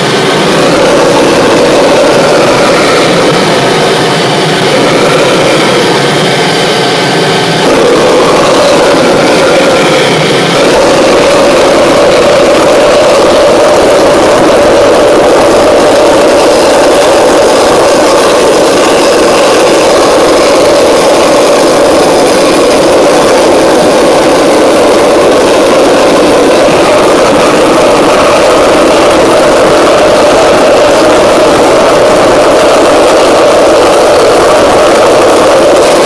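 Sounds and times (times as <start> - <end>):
faint high whine: 0.0 - 36.0
gas turbine roaring: 0.0 - 36.0.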